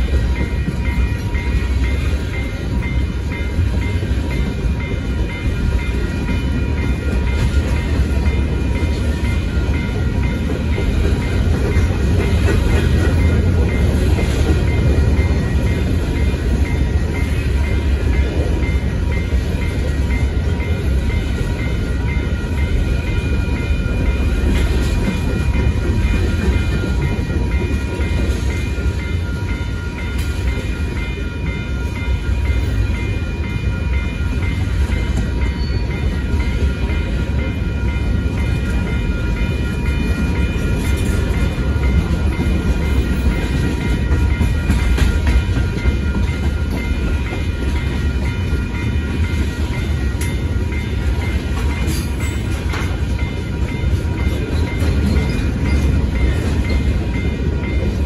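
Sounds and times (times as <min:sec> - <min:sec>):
crossing warning bell ringing: 0:00.0 - 0:58.0
train wheels rumbling on rails: 0:00.0 - 0:58.0.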